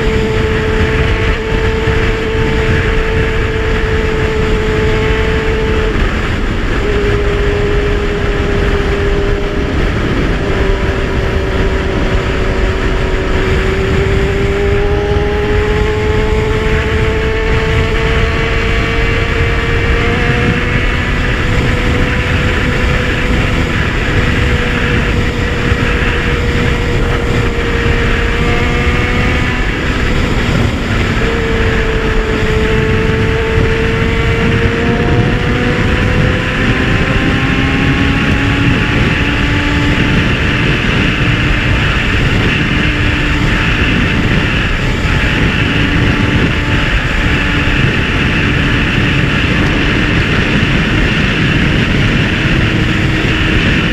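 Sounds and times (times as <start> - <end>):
motorcycle engine cruising: 0.0 - 53.9
wind noise rushing: 0.0 - 53.9.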